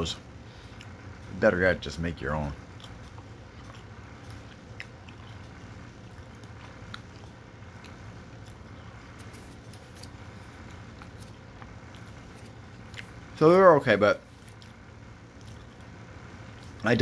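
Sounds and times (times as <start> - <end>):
steady low hum: 0.0 - 17.0
chewing crunchy fries: 0.1 - 13.4, 14.2 - 17.0.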